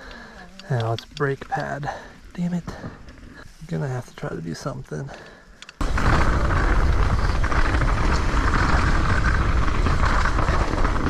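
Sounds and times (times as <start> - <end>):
bike trail noise: 0.0 - 11.0
wind: 0.0 - 11.0.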